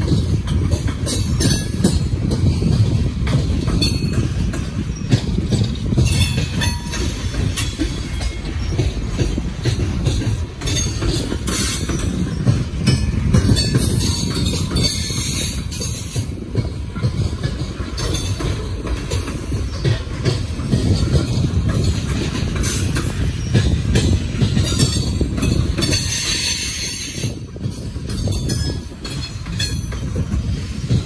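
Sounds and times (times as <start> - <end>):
freight cars rumbling on rails: 0.0 - 31.0
wheels clattering over rail joints: 0.0 - 31.0.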